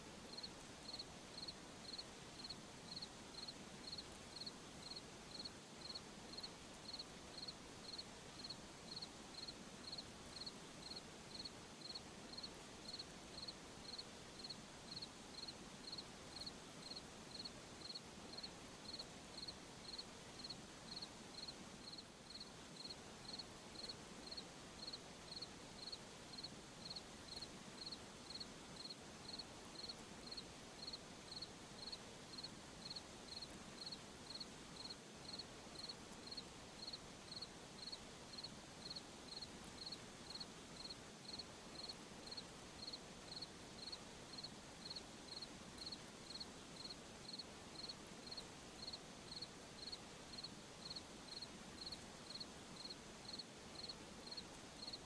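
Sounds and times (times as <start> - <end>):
faint night ambience hiss: 0.0 - 55.0
cricket chirping: 0.3 - 55.0.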